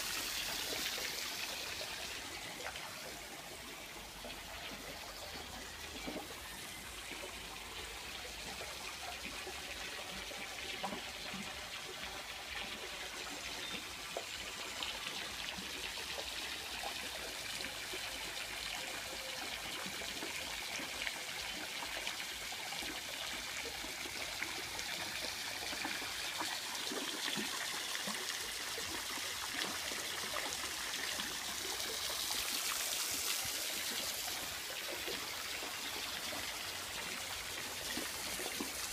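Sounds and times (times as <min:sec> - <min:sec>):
water trickling into pond: 0:00.0 - 0:38.9.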